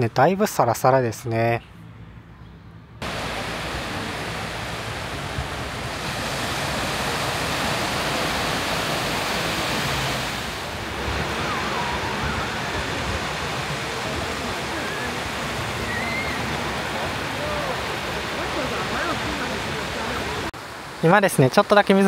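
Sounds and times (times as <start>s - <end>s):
surf waves washing up beach: 3.0s - 22.0s.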